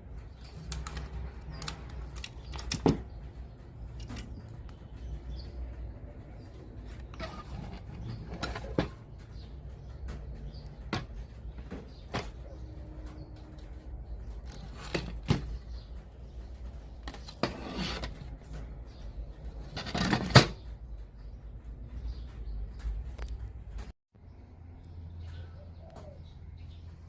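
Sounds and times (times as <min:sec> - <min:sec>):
sharp clicks and knocks: 0:00.0 - 0:24.0.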